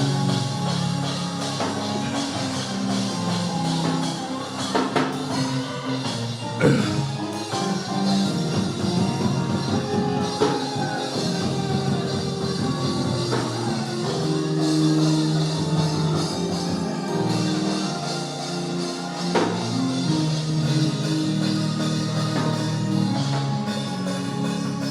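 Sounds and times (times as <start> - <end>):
church band playing chords: 0.0 - 24.9.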